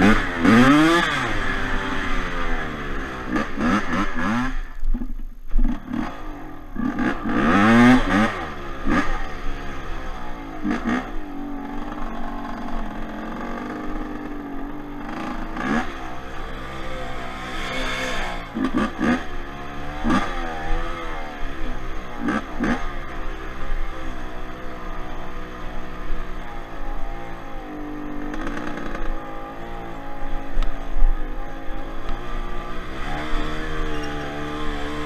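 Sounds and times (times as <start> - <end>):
two-stroke quad engine revving: 0.0 - 35.0.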